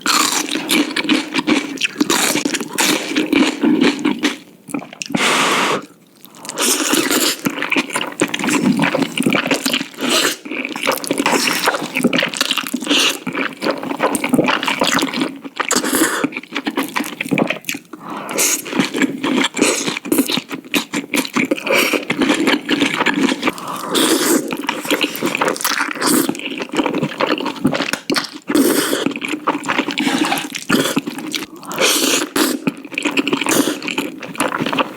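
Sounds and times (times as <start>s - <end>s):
wet slurping and chewing noodles: 0.0s - 34.9s.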